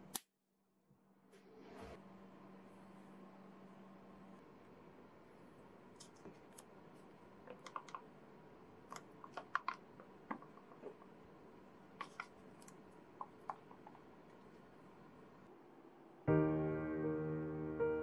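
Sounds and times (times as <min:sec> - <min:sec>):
room hum: 0:00.0 - 0:18.0.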